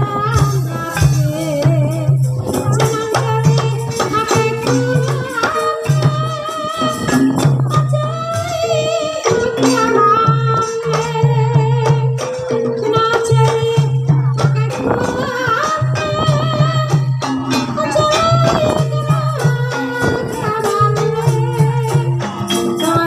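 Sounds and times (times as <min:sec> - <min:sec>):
gamelan music: 0:00.0 - 0:23.0
person singing wavering melody: 0:00.0 - 0:23.0.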